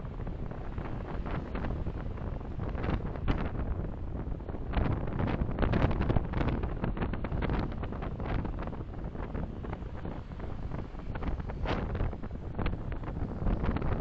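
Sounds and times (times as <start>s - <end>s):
road and wind noise: 0.0s - 14.0s
wind buffeting microphone: 0.0s - 14.0s.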